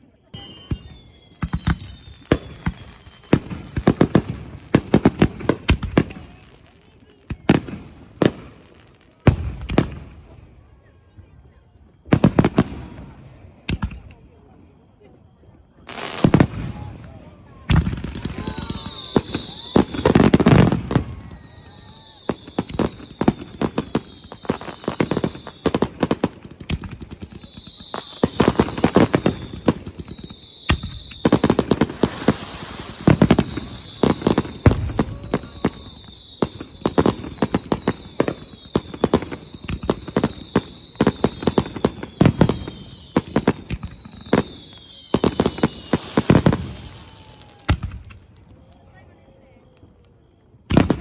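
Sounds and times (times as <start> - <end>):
fireworks bangs and crackles: 0.0 - 51.0
falling firework whistles: 0.3 - 8.6, 14.8 - 51.0.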